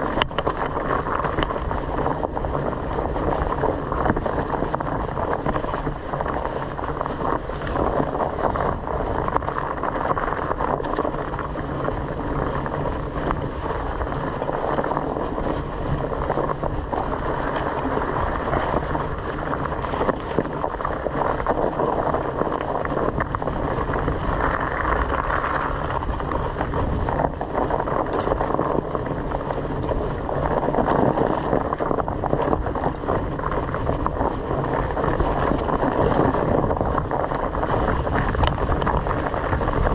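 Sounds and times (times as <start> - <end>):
bike knocks and rattles: 0.0 - 39.9
tyre rumble: 0.0 - 39.9
wind on microphone: 0.0 - 39.9.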